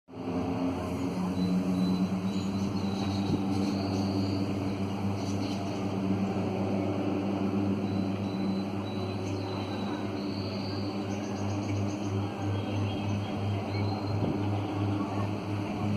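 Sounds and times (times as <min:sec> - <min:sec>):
ferry engines droning: 0:00.1 - 0:15.9.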